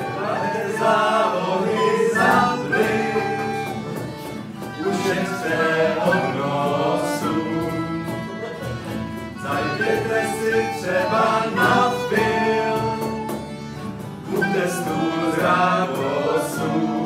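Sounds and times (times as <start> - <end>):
strummed guitars: 0.0 - 17.0
violin: 0.0 - 17.0.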